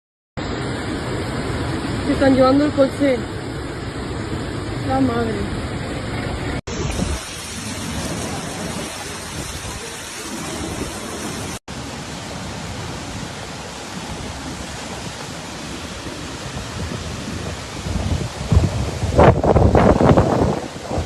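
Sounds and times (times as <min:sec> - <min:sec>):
floodwater rushing: 0:00.4 - 0:21.0
torrential rain: 0:00.4 - 0:21.0.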